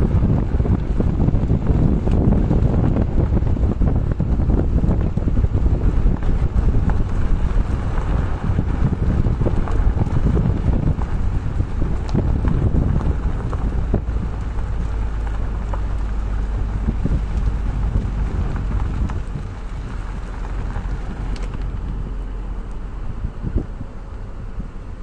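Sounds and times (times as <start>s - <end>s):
car tyres rumbling on gravel: 0.0s - 25.0s
stones ticking and rattling: 0.1s - 22.9s.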